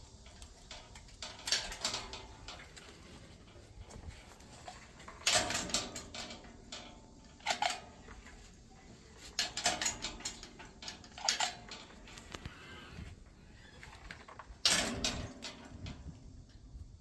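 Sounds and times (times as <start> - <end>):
metal gate lock clicks and rattles: 0.1 - 16.9.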